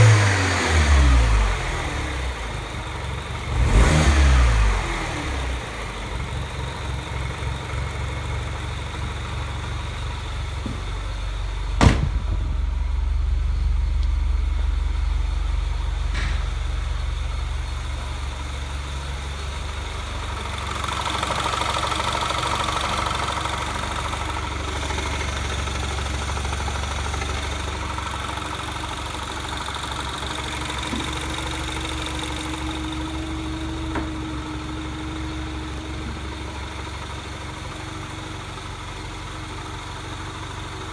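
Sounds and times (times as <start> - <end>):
car engine idling: 0.9 - 4.0, 4.6 - 40.9.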